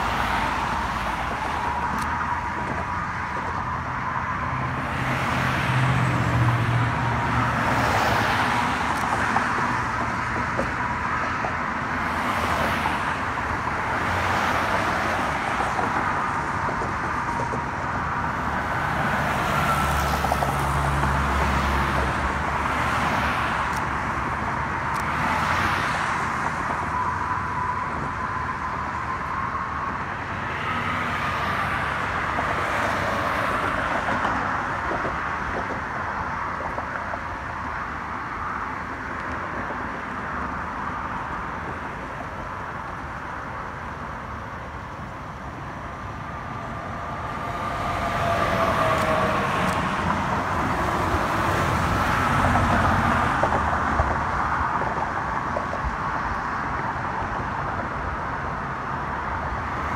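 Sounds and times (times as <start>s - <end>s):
cars passing with tyre whoosh: 0.0s - 59.9s
steady traffic hum: 0.0s - 59.9s.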